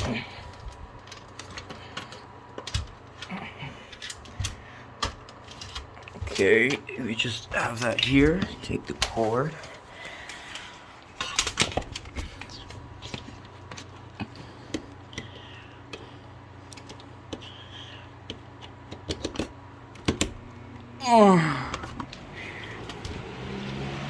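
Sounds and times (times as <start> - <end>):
plastic fan and cord clicking: 0.0 - 21.0, 21.6 - 24.0.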